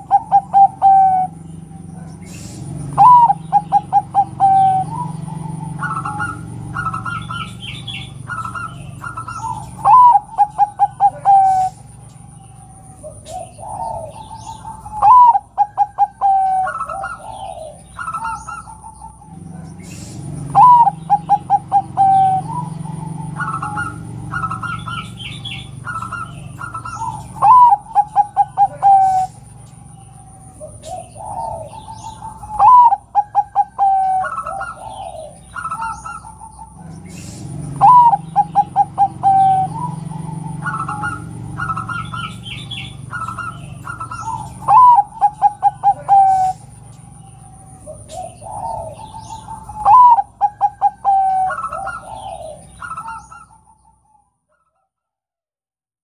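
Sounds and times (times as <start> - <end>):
dove cooing: 0.0 - 54.3
small bird chirps: 0.0 - 54.9.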